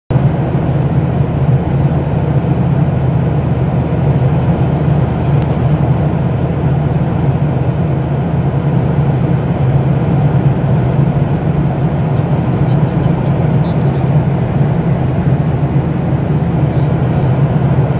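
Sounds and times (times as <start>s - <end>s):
airplane cabin drone: 0.1s - 17.9s.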